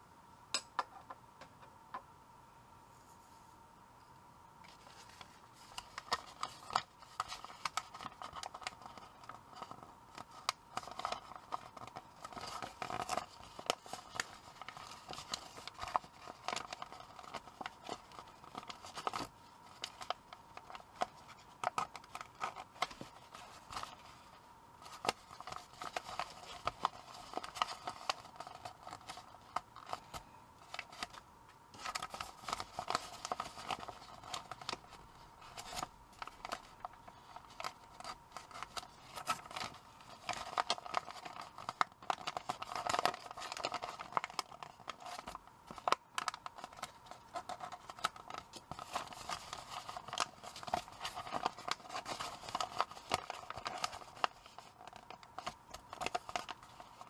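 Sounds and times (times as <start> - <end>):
paper crinkling being folded: 4.7 - 57.0.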